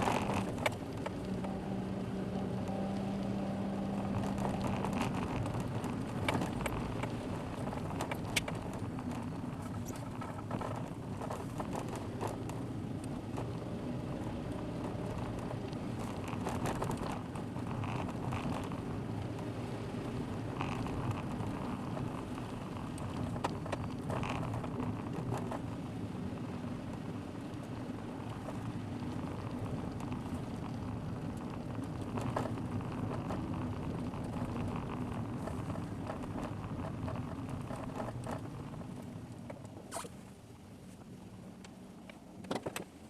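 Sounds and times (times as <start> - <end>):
low engine tone: 0.0 - 43.0
road and tyre noise: 0.0 - 43.0
small clicks and crackles: 0.0 - 43.0.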